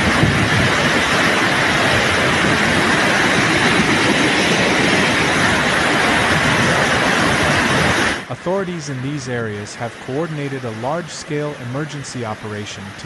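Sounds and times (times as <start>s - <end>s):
floodwater rushing down street: 0.0s - 13.0s.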